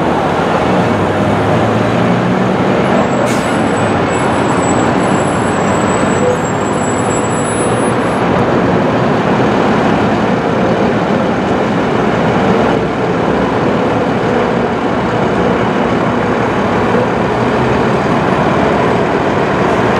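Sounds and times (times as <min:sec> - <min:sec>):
road traffic noise: 0:00.0 - 0:19.9.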